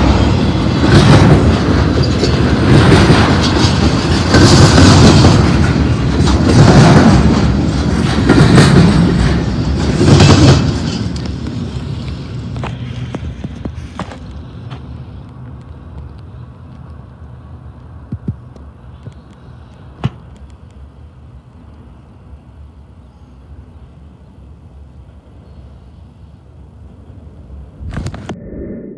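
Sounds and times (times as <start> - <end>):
train wheels rumbling on rails: 0.0 - 28.4.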